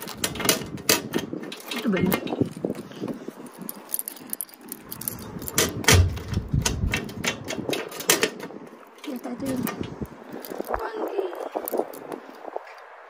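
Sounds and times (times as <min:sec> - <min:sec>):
keys jangling against metal mailbox: 0:00.0 - 0:12.4.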